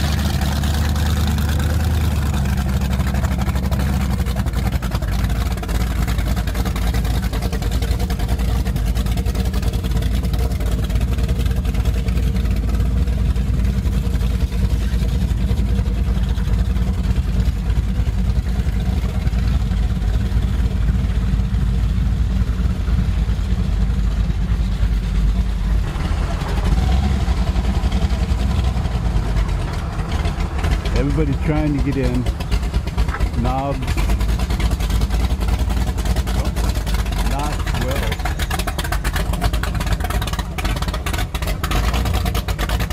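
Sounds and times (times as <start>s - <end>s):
speedboat engine idling: 0.0s - 42.9s.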